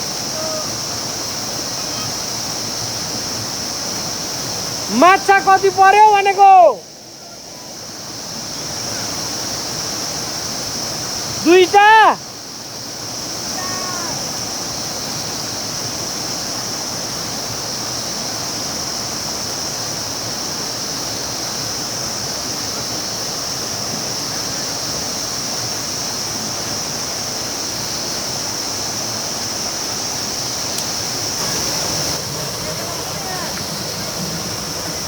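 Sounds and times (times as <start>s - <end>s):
high-pitched hiss: 0.0s - 35.0s
river water rushing: 0.0s - 35.0s.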